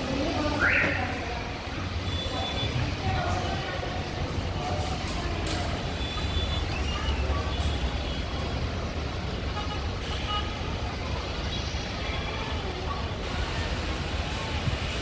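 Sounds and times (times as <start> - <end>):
faint distant voices: 0.0 - 15.0
ground vehicles: 0.0 - 15.0.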